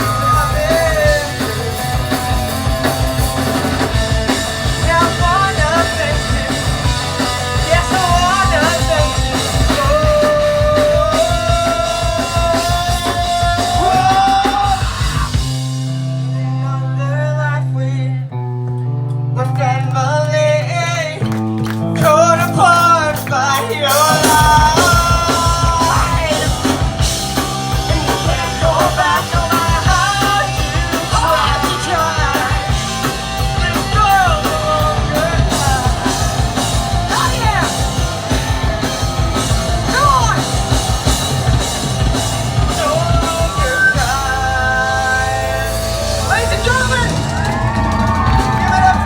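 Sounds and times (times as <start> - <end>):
lead vocalist singing: 0.0 - 18.4, 19.4 - 49.0
guitar: 0.0 - 49.0
live rock band: 0.0 - 49.0.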